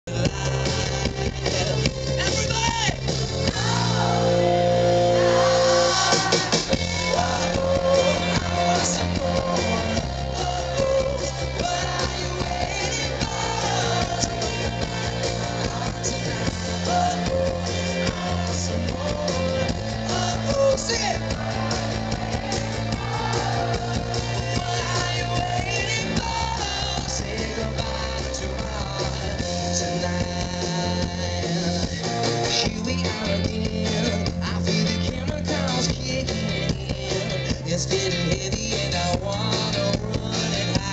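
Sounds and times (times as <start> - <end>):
live rock band playing: 0.1 - 40.9
man singing: 0.1 - 40.9.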